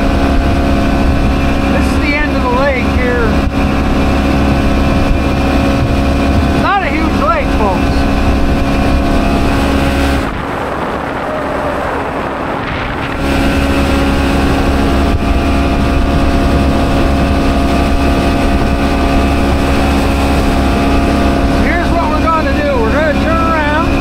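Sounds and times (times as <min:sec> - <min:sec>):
outboard motor droning: 0:00.0 - 0:24.0.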